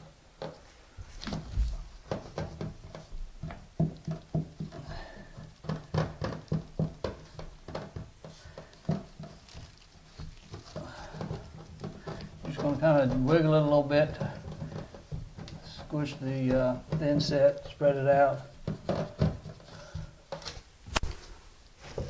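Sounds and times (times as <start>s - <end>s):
trowel scraping and knocking tile: 1.2s - 22.0s.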